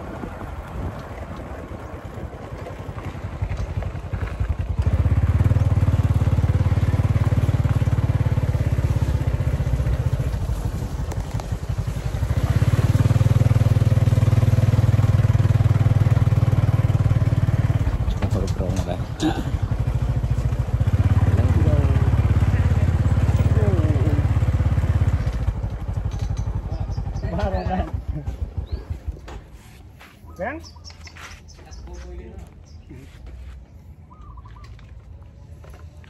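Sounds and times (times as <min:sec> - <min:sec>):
small engine running: 0:00.0 - 0:29.3.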